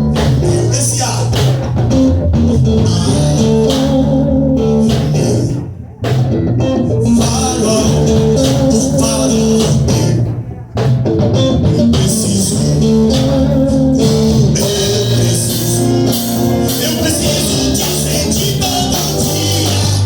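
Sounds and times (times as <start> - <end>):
band playing guitar-led song: 0.0 - 20.0.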